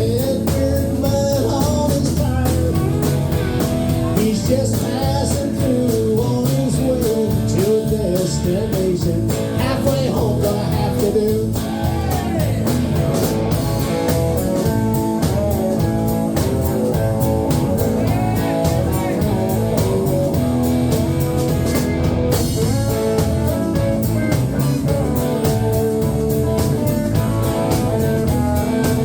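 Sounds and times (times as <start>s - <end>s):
bass: 0.0s - 29.0s
drum beat: 0.0s - 29.0s
guitar: 0.0s - 29.0s.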